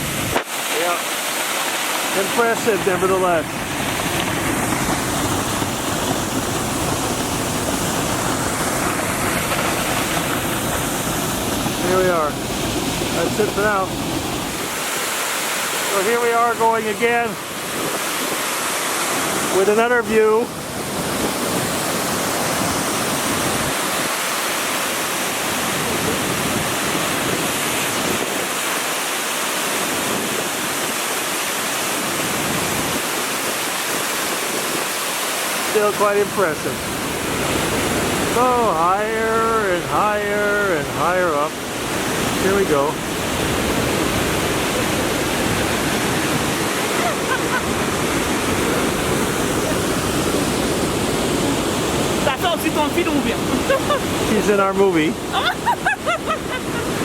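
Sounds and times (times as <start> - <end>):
waterfall rushing over rocks: 0.0 - 57.0.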